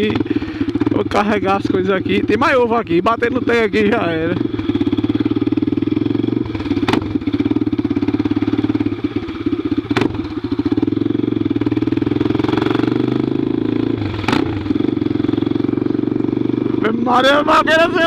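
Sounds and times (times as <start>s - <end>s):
motorcycle engine through open exhaust: 0.0s - 18.0s.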